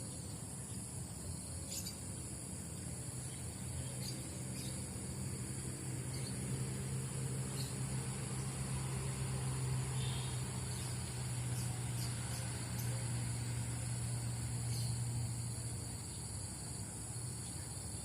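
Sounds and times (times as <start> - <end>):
insects chirring: 0.0 - 18.0
low engine-like hum: 0.0 - 18.0.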